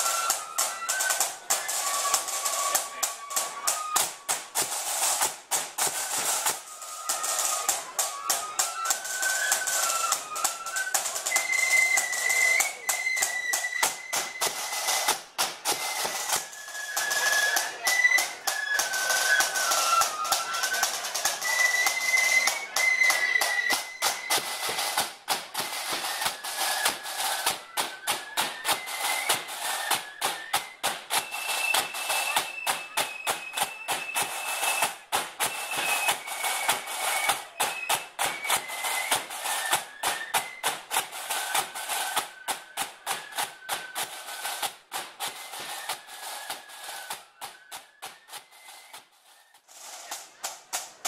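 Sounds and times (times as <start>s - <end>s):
flute melody: 0.0s - 51.0s
snare drum rolls: 0.0s - 51.0s.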